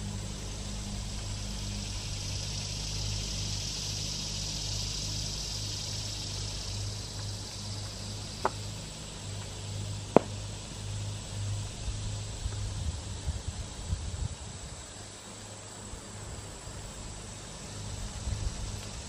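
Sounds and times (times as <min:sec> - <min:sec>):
high hiss: 0:00.0 - 0:19.0
low engine hum: 0:00.0 - 0:19.0.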